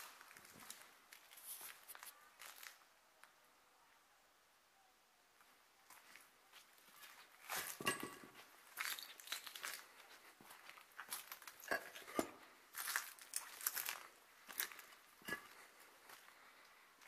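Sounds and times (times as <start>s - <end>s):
crackly footsteps: 0.0s - 3.4s, 5.4s - 17.0s.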